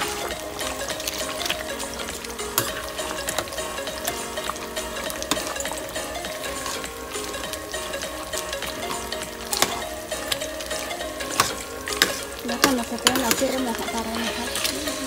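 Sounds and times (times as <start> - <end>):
salsa sizzling in pot: 0.0 - 15.0
spoon scraping metal pot: 0.0 - 15.0.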